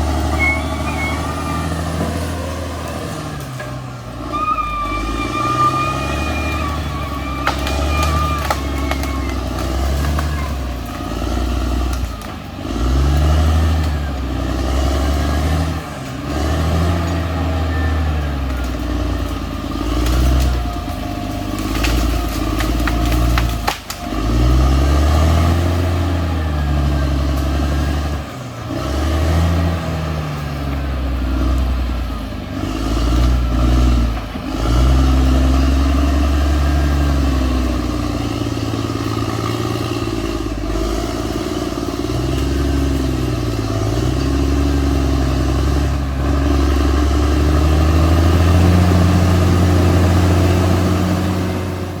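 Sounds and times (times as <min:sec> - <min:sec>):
bulldozer diesel engine working: 0:00.0 - 0:52.0.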